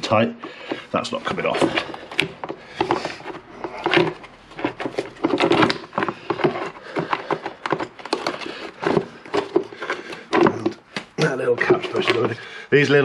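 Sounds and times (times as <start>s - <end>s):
plastic knocks and scraping: 0.0s - 13.0s.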